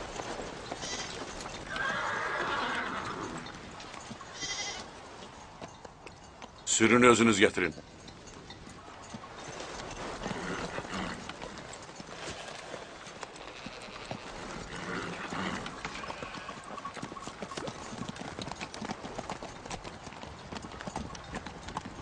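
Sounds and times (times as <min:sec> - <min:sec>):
horse hooves galloping on stony ground: 0:00.0 - 0:22.0.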